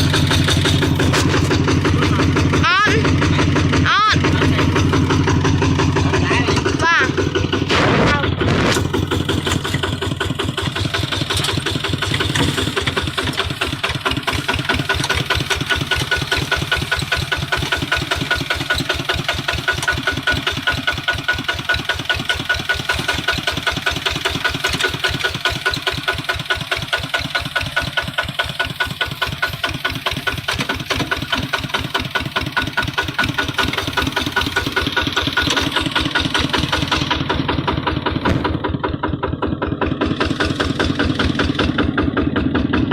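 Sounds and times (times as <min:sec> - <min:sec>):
diesel engine knocking: 0:00.0 - 0:42.9.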